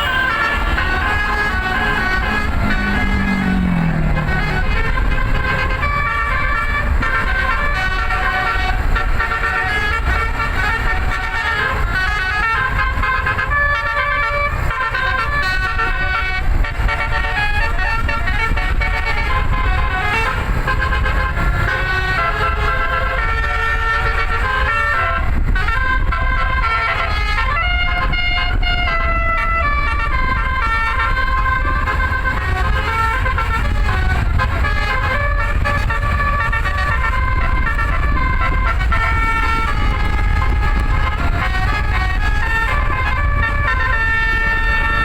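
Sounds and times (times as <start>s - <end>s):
low rumble of bus: 0.0s - 45.0s
musical bus horn melody: 0.0s - 45.0s.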